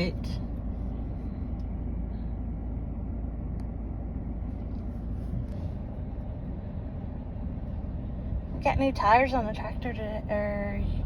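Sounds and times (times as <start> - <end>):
tractor engine rumbling: 0.0 - 11.0.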